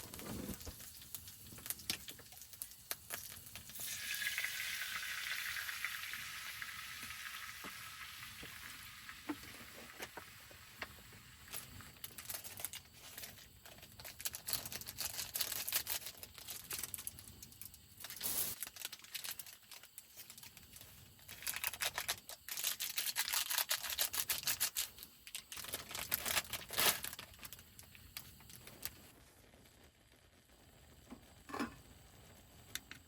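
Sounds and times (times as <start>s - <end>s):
crinkling and rustling handling: 0.0s - 3.7s, 9.3s - 33.0s.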